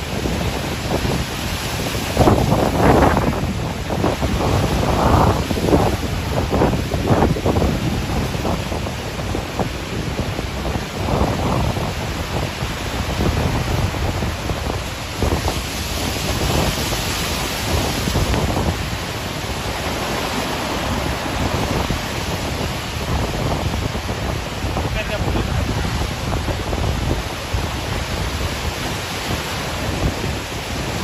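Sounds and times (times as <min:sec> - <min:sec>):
strong wind gusting on microphone: 0:00.0 - 0:31.0
waves breaking: 0:00.0 - 0:31.0.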